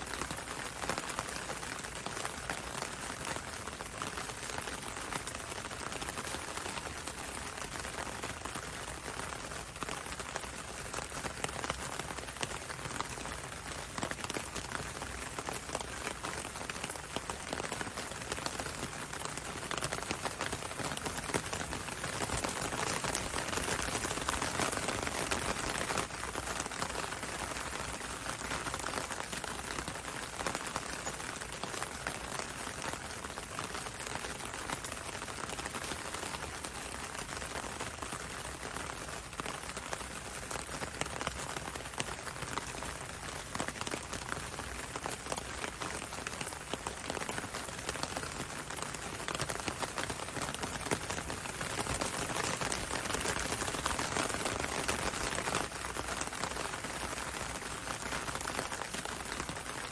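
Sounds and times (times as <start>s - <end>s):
rain pattering on window and road: 0.0s - 59.9s
ticks of raindrops: 0.0s - 59.9s.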